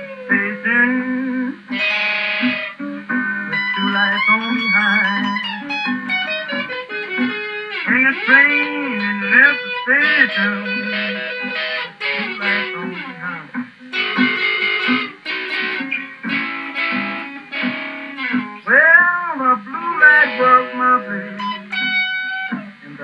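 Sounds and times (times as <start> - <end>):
electric guitar blues solo: 0.0 - 23.0.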